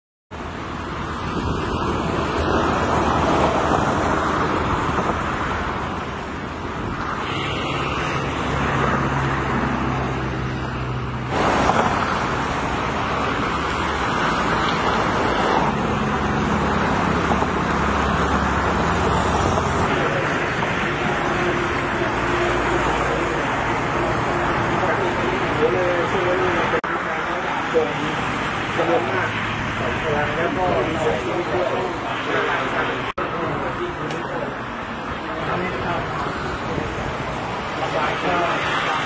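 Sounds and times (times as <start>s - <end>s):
engine drone going by: 0.4s - 39.0s
hum of passing vehicles: 0.4s - 39.0s.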